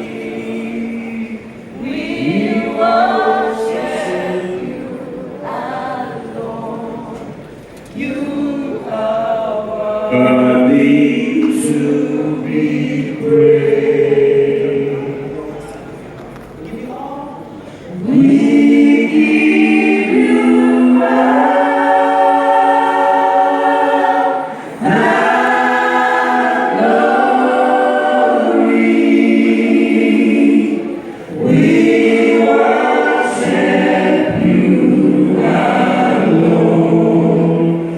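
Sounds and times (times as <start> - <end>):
group singing in harmony: 0.0 - 15.8, 17.7 - 37.9.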